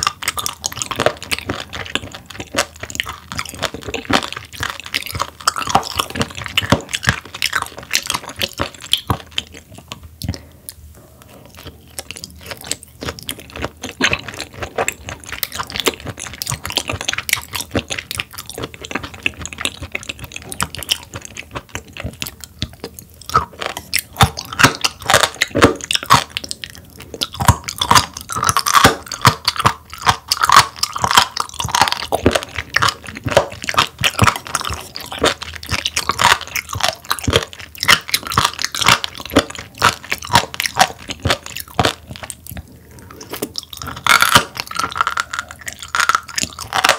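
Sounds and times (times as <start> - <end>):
chewing raw fish: 0.0 - 46.9.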